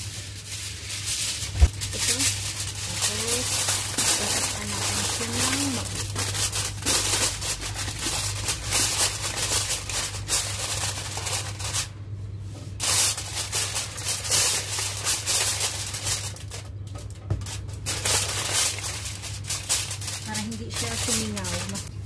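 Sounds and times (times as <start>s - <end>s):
aluminium foil crinkling: 0.0s - 12.0s, 12.8s - 22.0s.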